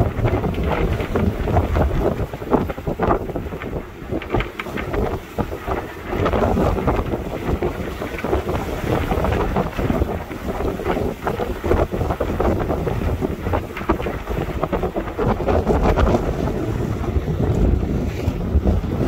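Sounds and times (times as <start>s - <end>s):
water rushing along hull: 0.0s - 19.0s
wind buffeting microphone: 0.0s - 19.0s.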